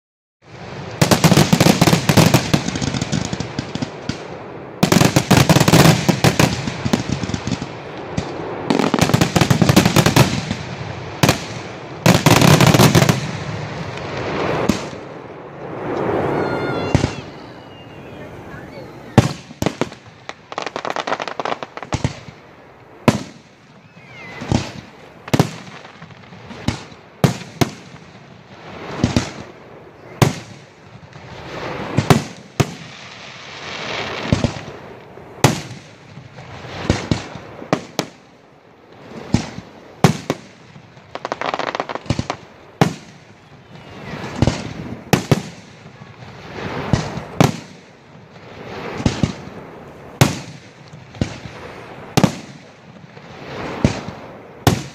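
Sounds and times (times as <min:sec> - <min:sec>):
fireworks bursting: 0:00.4 - 0:54.9.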